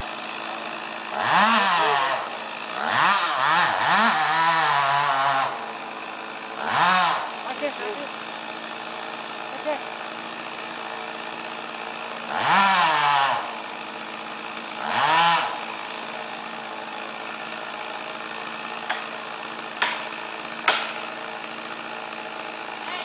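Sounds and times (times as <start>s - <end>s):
chainsaw idling and revving: 0.0s - 23.0s.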